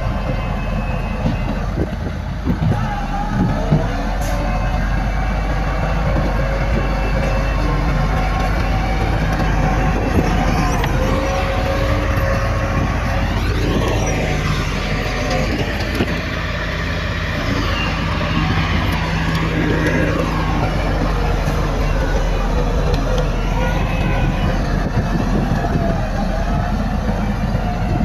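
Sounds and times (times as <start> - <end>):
heavy diesel machinery engine drone: 0.0 - 28.0.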